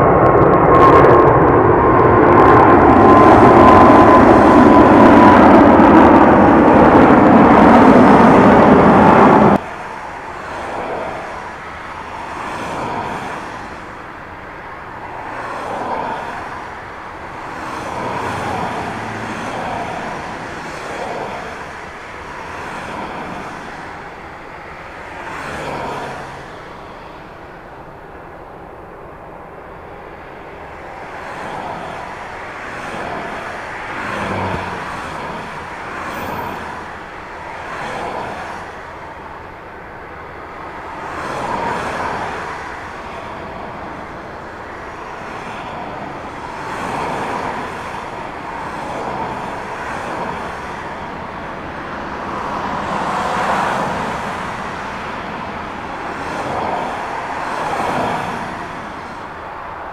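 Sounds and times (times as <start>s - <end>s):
distant jet noise: 0.0s - 59.9s
jet engines roaring: 0.0s - 59.9s
traffic noise: 0.0s - 59.9s.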